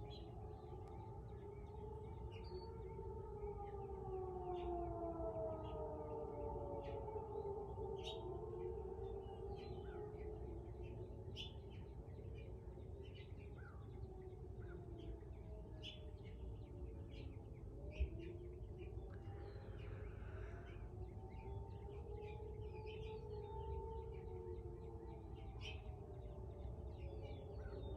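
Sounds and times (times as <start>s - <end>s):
distant warning siren: 0.0s - 27.9s.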